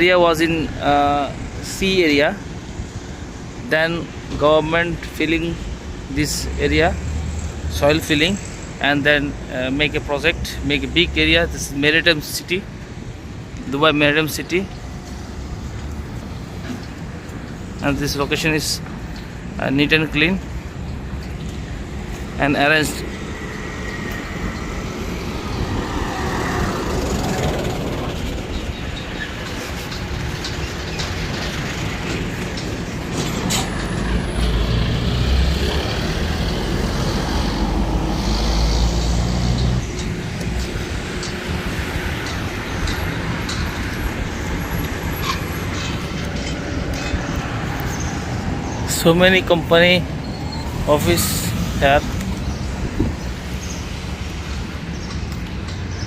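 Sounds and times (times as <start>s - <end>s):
vehicle rumble and road noise: 0.0s - 56.0s.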